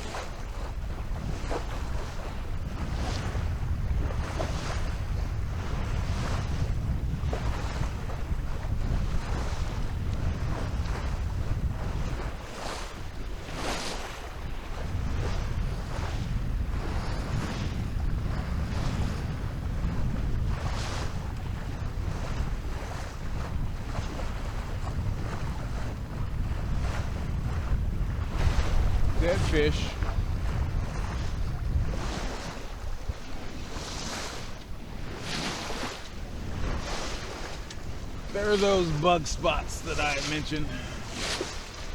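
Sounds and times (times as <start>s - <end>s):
water splashing along a hull: 0.0s - 41.9s
wind buffeting microphone: 0.0s - 41.9s.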